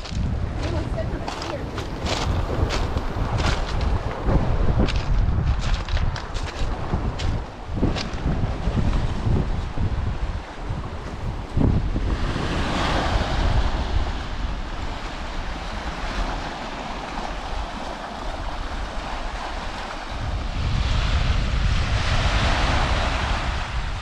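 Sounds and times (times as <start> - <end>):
waves washing onto beach: 0.0 - 24.0
wind buffeting microphone: 0.0 - 24.0.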